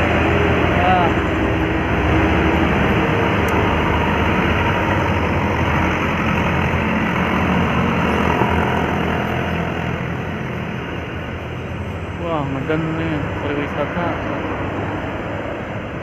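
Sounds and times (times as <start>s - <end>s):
diesel engine drone: 0.0s - 16.0s
road noise: 0.0s - 16.0s.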